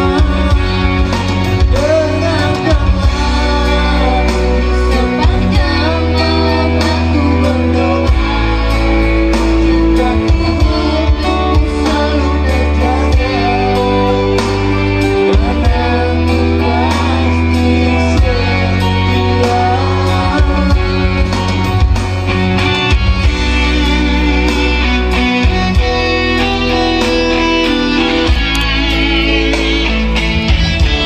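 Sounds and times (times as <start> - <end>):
singing into microphones: 0.0 - 22.2, 22.8 - 31.0
backing music with heavy bass: 0.0 - 31.0.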